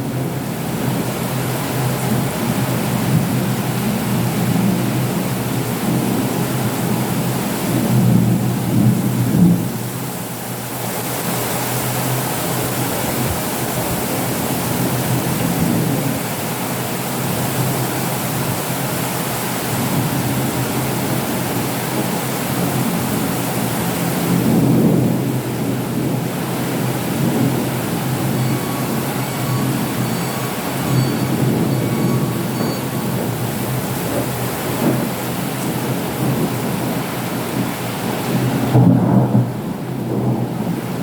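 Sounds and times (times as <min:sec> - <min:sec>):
thunder rumbling: 0:00.0 - 0:10.6, 0:12.5 - 0:41.0
steady rain: 0:00.0 - 0:41.0.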